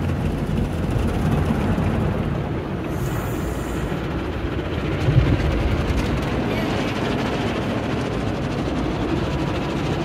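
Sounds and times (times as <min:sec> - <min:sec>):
car wash machinery rumble: 0:00.0 - 0:10.0.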